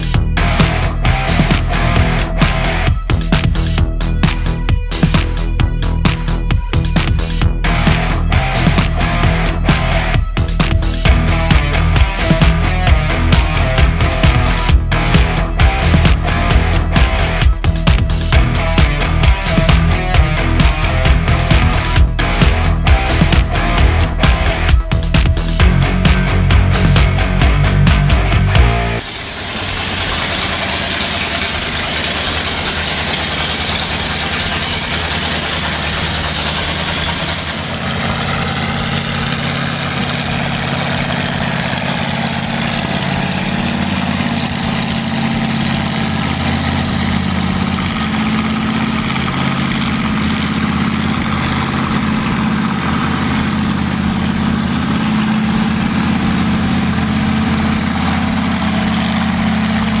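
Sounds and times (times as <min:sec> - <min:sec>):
tractor engine running near idle: 0:00.0 - 1:00.0.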